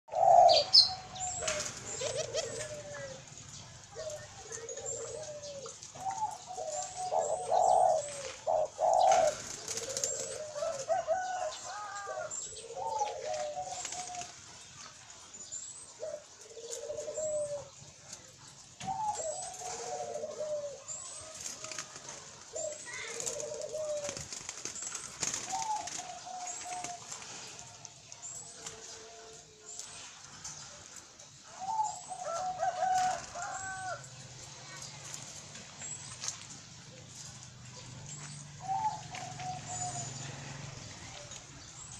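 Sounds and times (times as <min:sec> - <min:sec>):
doves cooing: 0:00.0 - 0:14.8, 0:15.4 - 0:41.9.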